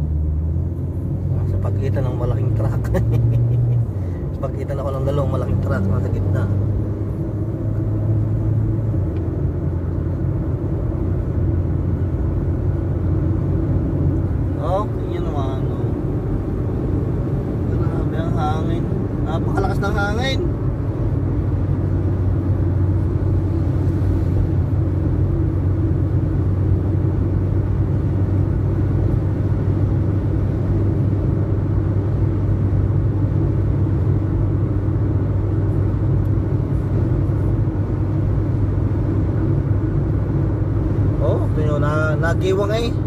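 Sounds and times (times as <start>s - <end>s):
road noise: 0.0s - 43.0s
vehicle engine rumble: 0.0s - 43.0s.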